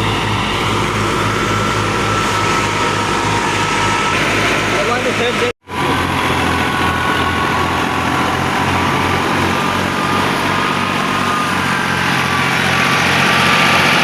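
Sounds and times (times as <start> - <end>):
thresher mechanical rush: 0.0 - 14.0
tractor diesel engine running: 0.0 - 14.0.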